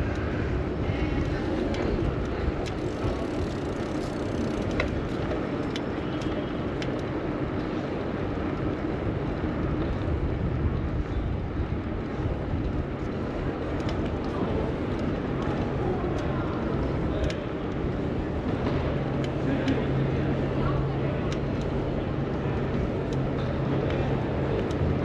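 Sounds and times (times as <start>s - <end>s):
street traffic: 0.0s - 25.0s.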